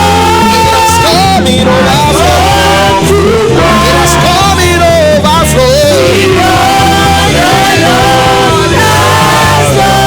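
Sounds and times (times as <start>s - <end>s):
worship band playing: 0.0s - 10.0s.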